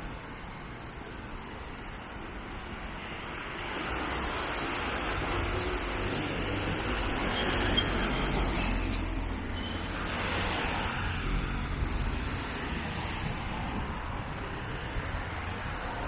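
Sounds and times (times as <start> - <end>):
road traffic hiss and rumble: 0.0 - 16.0.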